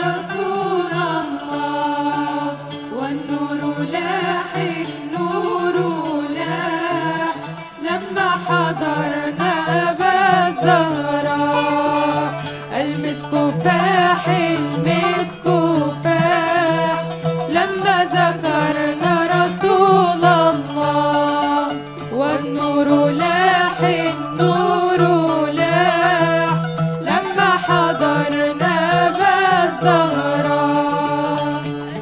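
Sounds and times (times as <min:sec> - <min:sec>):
women's vocal group singing: 0:00.0 - 0:32.0.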